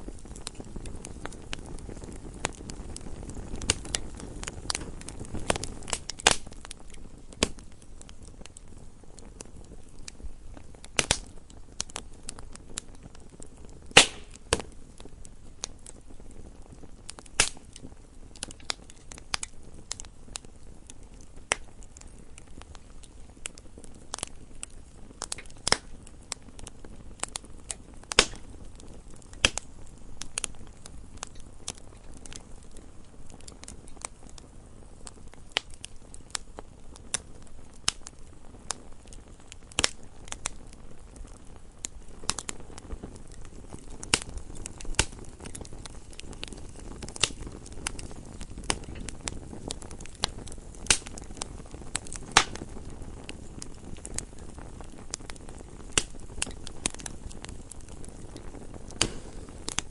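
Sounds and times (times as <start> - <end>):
hiss of flame: 0.0 - 59.9
logs crackling and popping: 0.0 - 59.9.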